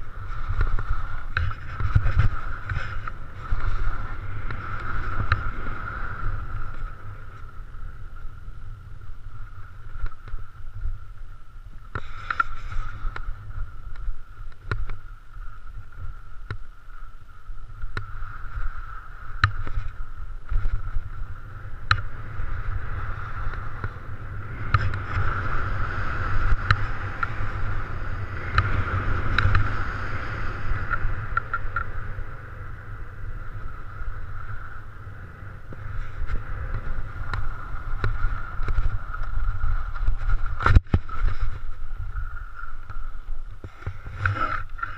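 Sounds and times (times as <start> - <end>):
low wind rumble: 0.0 - 44.9.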